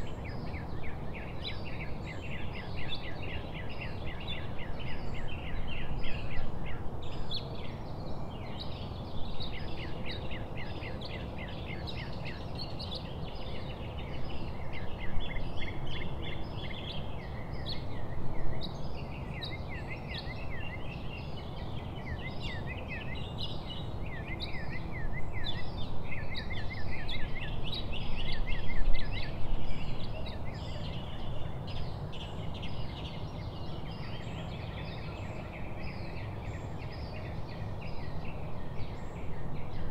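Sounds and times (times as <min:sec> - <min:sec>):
low background noise: 0:00.0 - 0:39.9
small birds chirping: 0:00.0 - 0:39.9.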